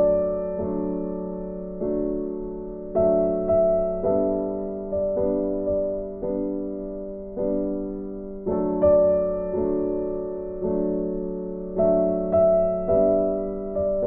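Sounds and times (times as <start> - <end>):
gentle piano chords: 0.0 - 14.0.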